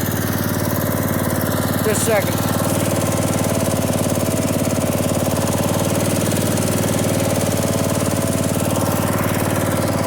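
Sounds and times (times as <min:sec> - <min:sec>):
lawn mower engine idling: 0:00.0 - 0:10.0.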